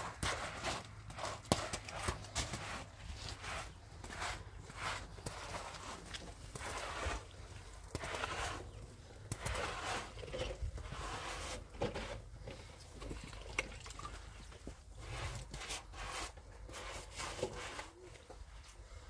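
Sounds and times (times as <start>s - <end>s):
trowel scraping plaster: 0.0s - 12.4s, 14.9s - 18.2s.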